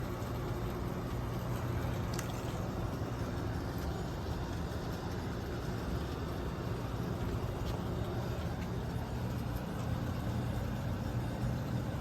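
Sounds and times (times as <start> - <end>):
air conditioner blower rushing: 0.0 - 12.0
low even hum: 0.0 - 12.0.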